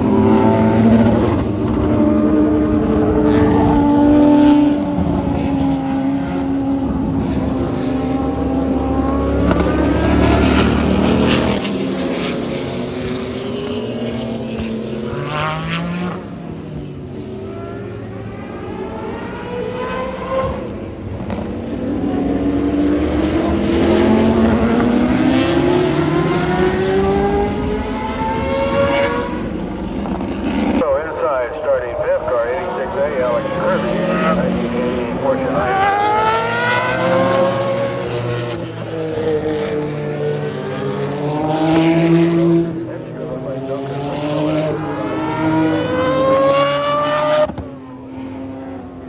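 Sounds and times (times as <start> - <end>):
race cars revving past: 0.0 - 49.0.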